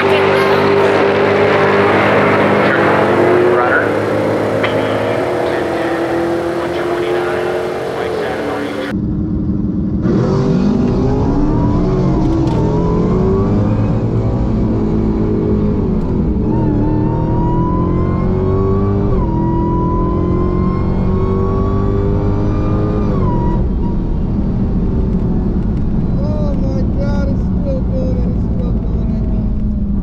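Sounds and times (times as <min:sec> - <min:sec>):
car engine at full throttle: 0:00.0 - 0:30.0.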